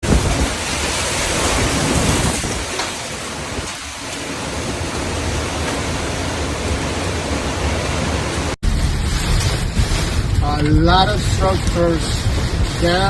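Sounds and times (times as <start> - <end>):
heavy rain: 0.0 - 13.0
storm wind: 0.0 - 13.0
wind buffeting microphone: 0.0 - 13.0.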